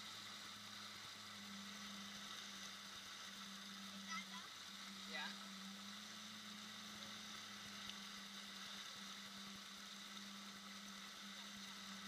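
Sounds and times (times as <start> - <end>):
jet ski engine droning: 0.0 - 12.0
water spraying hiss: 0.0 - 12.0.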